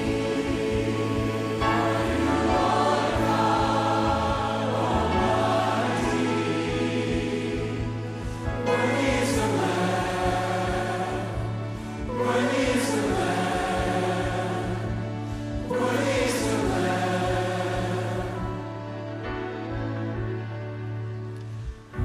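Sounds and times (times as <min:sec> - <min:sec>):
choir singing sustained notes: 0:00.0 - 0:22.0.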